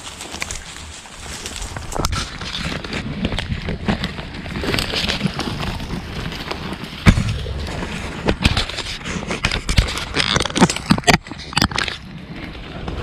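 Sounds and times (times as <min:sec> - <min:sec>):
irregular crackling and knocking: 0:00.0 - 0:13.0
steady rumble: 0:00.0 - 0:13.0.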